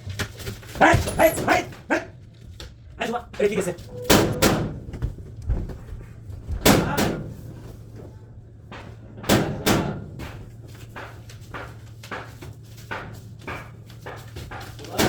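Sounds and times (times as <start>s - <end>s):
sharp knocks and bangs: 0.8s - 2.0s, 3.9s - 15.0s.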